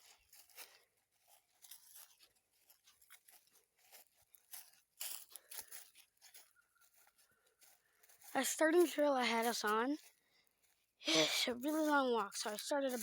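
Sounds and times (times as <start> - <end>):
crunching footsteps on a trail: 0.0 - 13.0.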